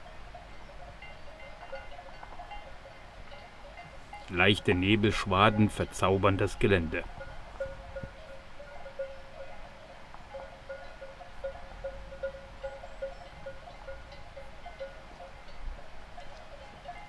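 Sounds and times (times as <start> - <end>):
cowbells clanking: 0.0 - 17.0.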